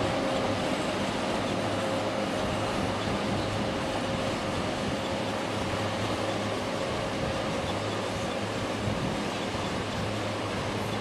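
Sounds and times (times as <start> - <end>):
freight train rolling on rails: 0.0 - 11.0.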